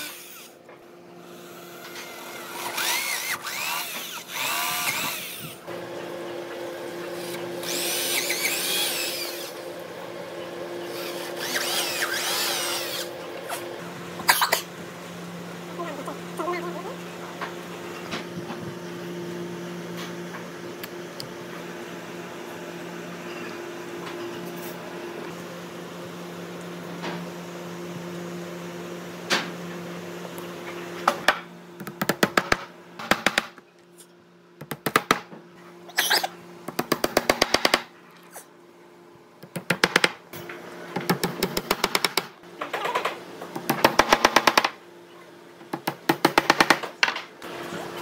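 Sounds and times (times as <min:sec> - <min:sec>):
machine hum: 0:00.0 - 0:48.0.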